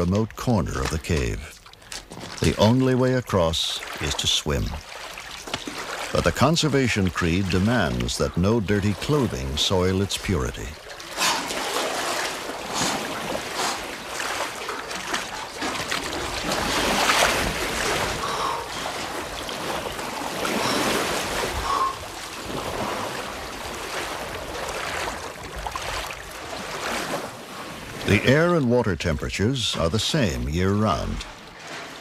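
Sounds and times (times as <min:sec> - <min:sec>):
water splashing from swimming: 0:00.0 - 0:28.7, 0:29.4 - 0:32.0.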